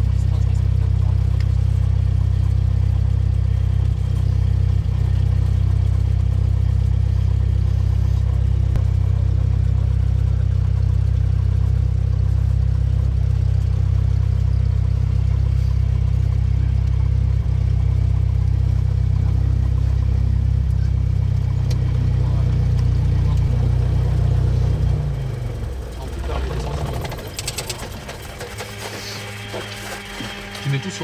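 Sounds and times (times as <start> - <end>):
propeller engine low drone: 0.0 - 31.0.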